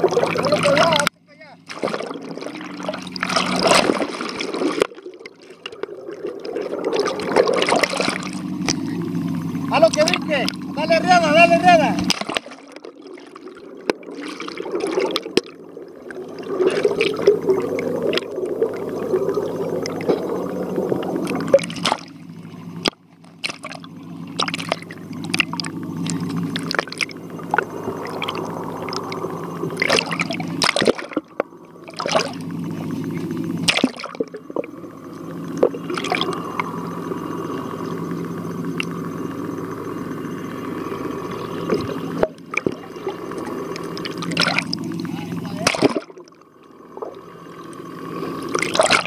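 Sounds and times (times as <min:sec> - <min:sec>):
steady low hum: 0:00.0 - 0:49.0
water swirling and bubbling: 0:00.0 - 0:49.0.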